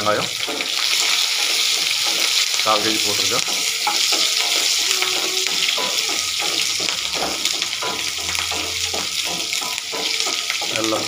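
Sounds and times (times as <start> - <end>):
food sizzling in oil: 0.0 - 11.0
wooden spatula stirring: 0.3 - 11.0.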